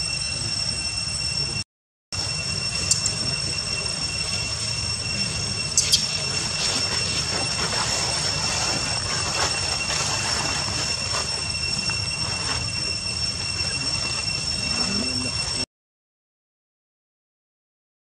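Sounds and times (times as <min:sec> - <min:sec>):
cicadas droning: 0:00.0 - 0:01.6, 0:02.2 - 0:15.6.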